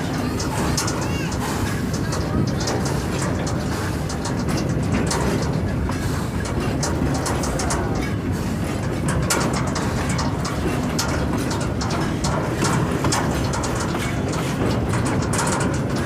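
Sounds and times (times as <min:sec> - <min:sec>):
rail wagon wheels rumbling: 0:00.0 - 0:16.0
wheels clicking and rattling: 0:00.0 - 0:16.0.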